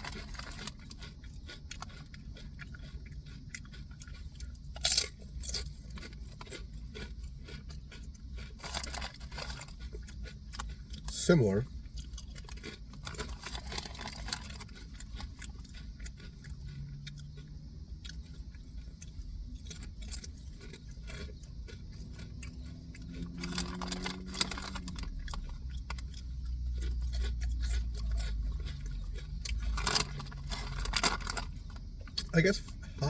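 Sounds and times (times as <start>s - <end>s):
potato chips being chewed: 0.0s - 33.0s.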